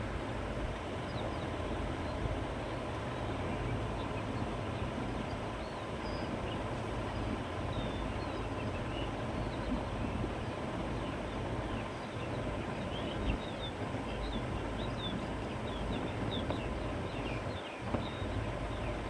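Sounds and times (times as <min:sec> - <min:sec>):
wind through grass and trees: 0:00.0 - 0:19.0.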